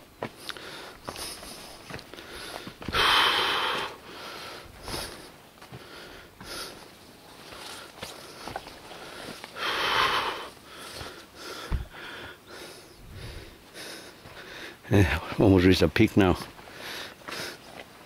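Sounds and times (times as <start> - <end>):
heavy breathing: 0.4 - 15.4, 16.6 - 17.8.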